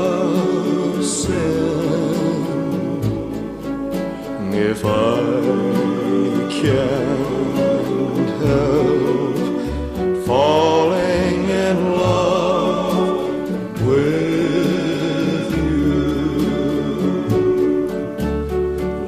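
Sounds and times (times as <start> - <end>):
pop song with singing: 0.0 - 18.5.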